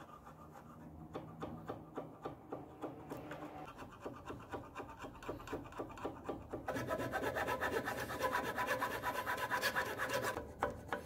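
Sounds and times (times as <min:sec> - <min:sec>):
hand tool scraping steel bar: 0:00.0 - 0:11.0.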